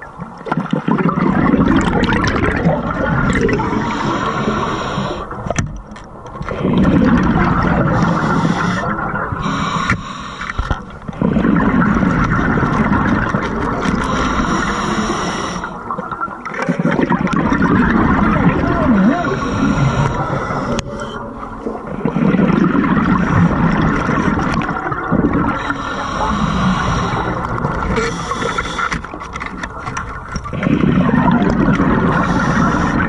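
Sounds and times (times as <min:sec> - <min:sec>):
exhaled bubbles rushing underwater: 0:00.0 - 0:33.0.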